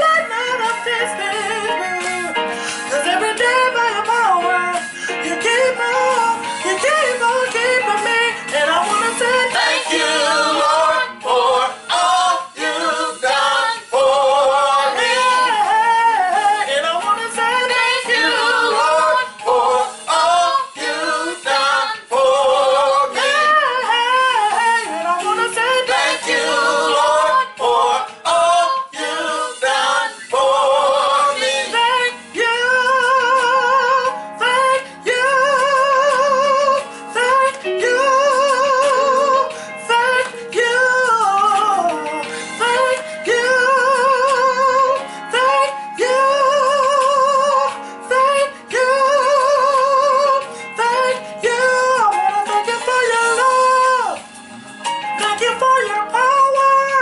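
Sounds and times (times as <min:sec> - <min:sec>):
people singing together: 0:05.5 - 0:54.2.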